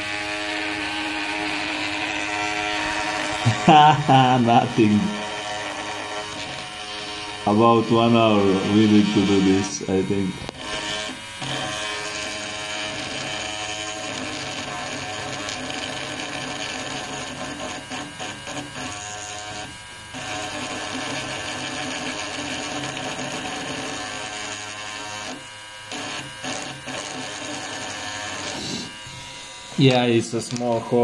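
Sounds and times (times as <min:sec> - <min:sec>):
rotary tool drilling into wood: 0:00.0 - 0:31.0.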